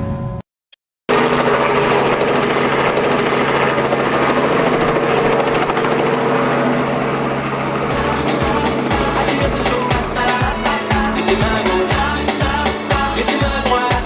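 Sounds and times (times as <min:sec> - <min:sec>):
boat engine running: 0:01.1 - 0:14.0.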